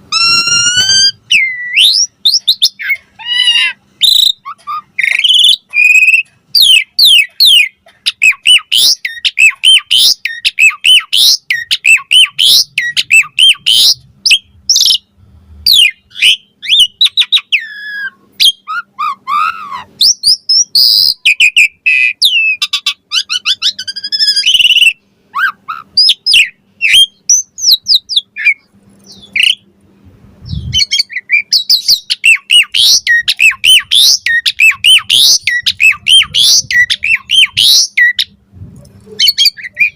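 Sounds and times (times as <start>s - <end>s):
starling singing: 0.0s - 29.7s, 30.4s - 38.4s, 39.0s - 39.9s.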